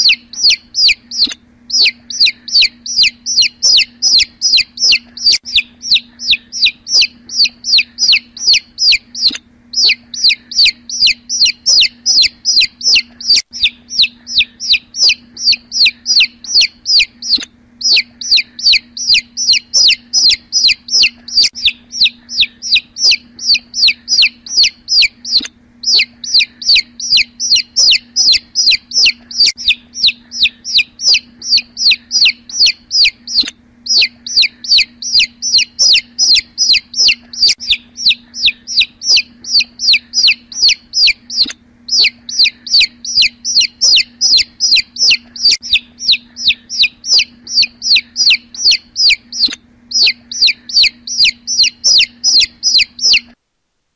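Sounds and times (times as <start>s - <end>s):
chick peeping: 0.0s - 53.4s
faint steady hum: 0.0s - 53.9s.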